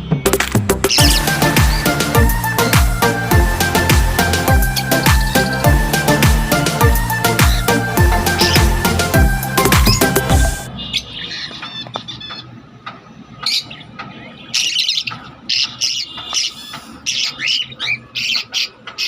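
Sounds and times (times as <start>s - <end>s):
lovebirds squawking and chirping: 0.9s - 12.6s, 13.4s - 19.0s.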